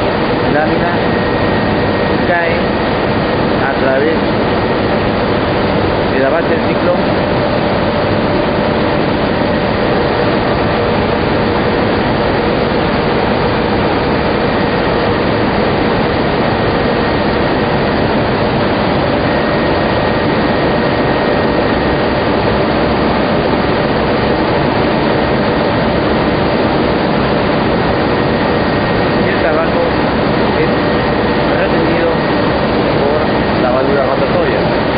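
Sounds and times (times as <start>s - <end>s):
loud machine blowers and rushing air: 0.0s - 34.9s.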